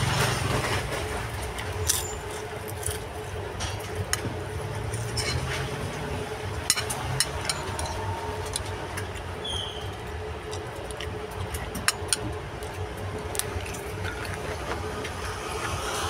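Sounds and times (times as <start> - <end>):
crackers crunching: 0.0 - 16.0.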